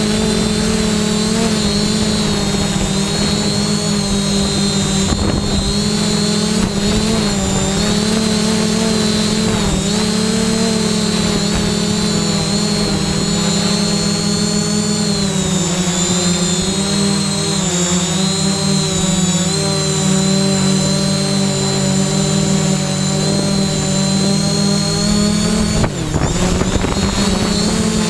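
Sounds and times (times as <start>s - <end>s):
drone propellers buzzing: 0.0s - 28.0s.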